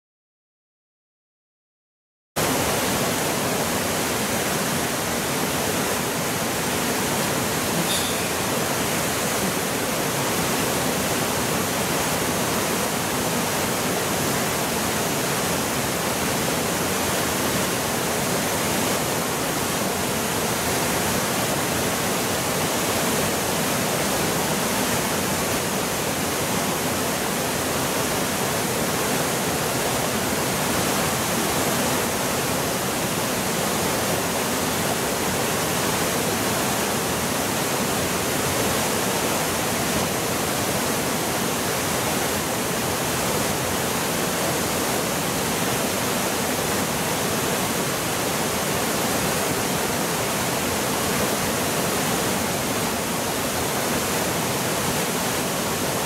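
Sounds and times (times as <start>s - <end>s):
rush of water over rapids: 2.4s - 56.0s.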